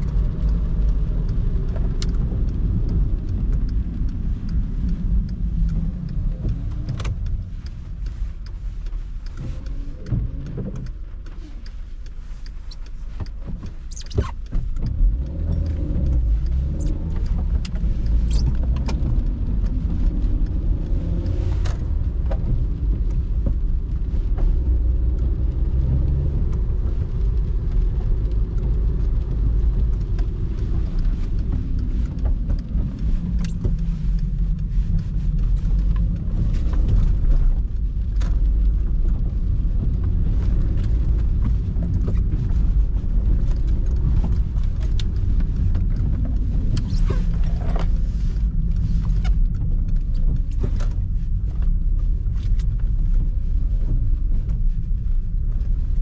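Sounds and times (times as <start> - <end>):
car engine drone: 0.0 - 56.0
road rumble: 0.0 - 56.0
small knocks and ticks: 0.0 - 56.0.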